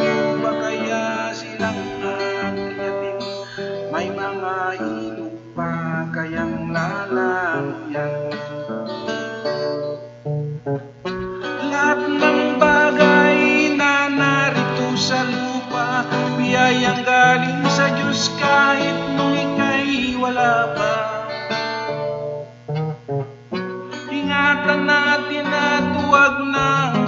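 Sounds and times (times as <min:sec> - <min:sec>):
man singing: 0:00.0 - 0:08.7, 0:11.4 - 0:22.0, 0:23.9 - 0:27.0
strummed acoustic guitar: 0:00.0 - 0:27.0.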